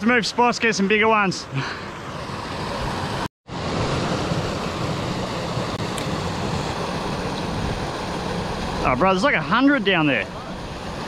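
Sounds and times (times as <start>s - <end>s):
small waterfall rushing: 2.0s - 11.0s.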